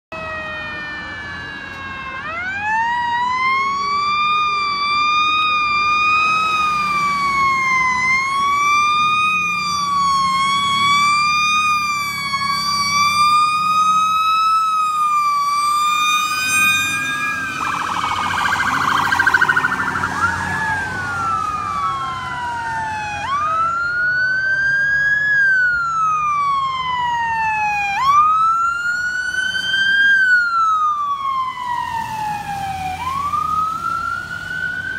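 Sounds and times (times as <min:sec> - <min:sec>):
electronic sirens wailing: 0:00.2 - 0:34.9.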